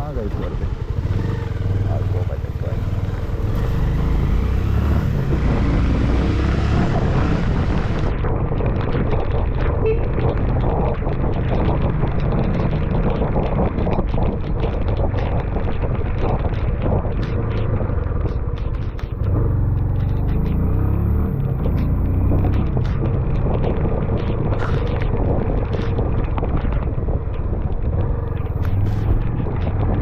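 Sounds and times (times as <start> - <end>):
wind buffeting microphone: 0.0 - 20.6, 21.3 - 30.0
motorcycle engine rumble: 0.0 - 30.0.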